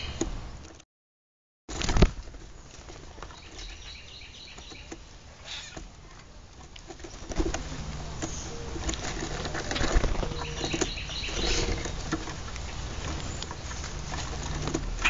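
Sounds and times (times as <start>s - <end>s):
birds flapping and scrabbling: 1.7s - 15.0s.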